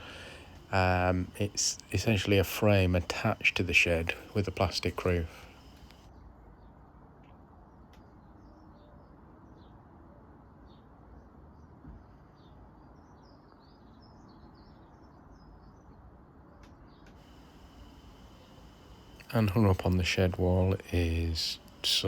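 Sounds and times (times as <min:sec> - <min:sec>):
low outdoor background noise: 0:00.0 - 0:22.0.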